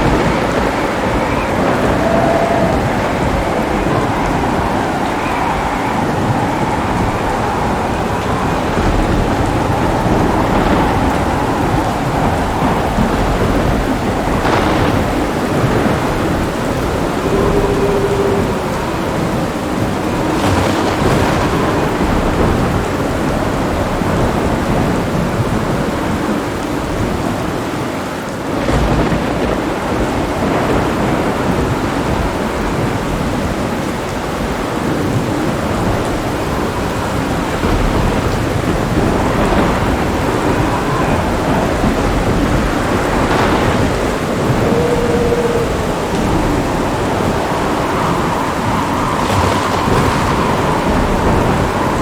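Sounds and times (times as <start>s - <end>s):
heavy rain falling: 0.0s - 52.0s
thunder rumbling: 0.0s - 52.0s.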